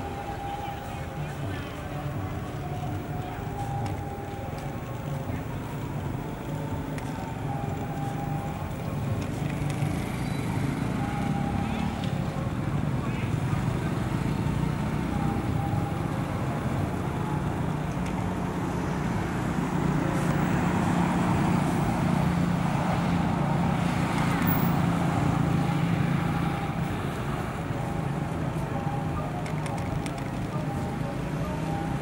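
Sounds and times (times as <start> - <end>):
low hum of motor traffic: 0.0 - 32.0.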